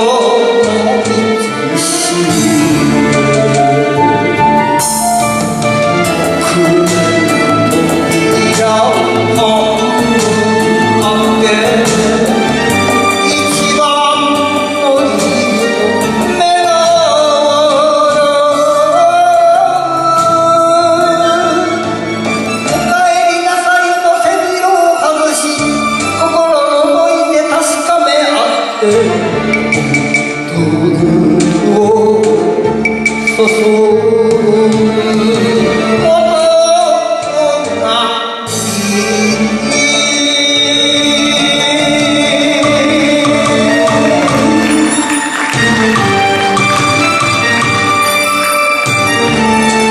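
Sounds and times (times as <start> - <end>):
man singing: 0.0 - 47.4
backing band playing: 0.0 - 49.9.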